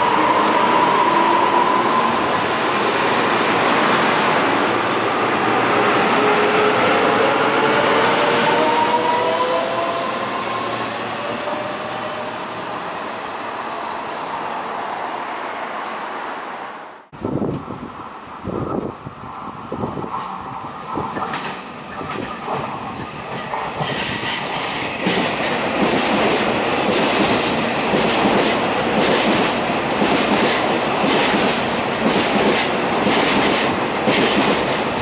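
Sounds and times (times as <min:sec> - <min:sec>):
train rumbling past with whine: 0:00.0 - 0:35.0.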